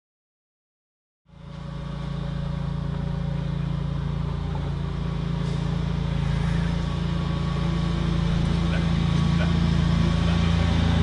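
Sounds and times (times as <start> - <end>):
vehicle engine running: 1.3 - 11.0.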